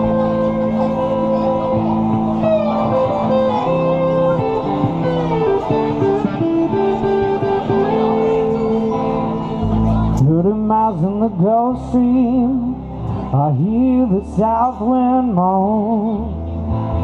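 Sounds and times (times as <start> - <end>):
bass: 0.0 - 17.0
electric guitar lead: 0.0 - 17.0
keyboard chords: 0.0 - 17.0.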